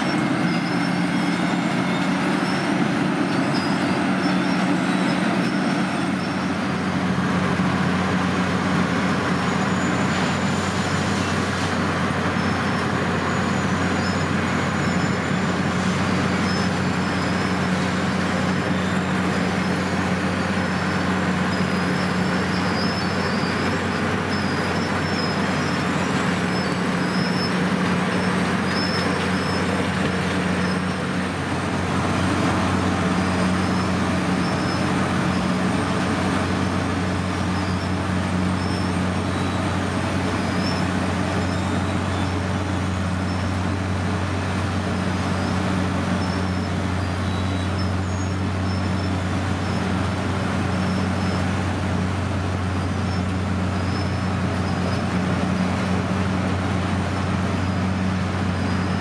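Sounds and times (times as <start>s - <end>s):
milling machine diesel engine drone: 0.0s - 59.0s.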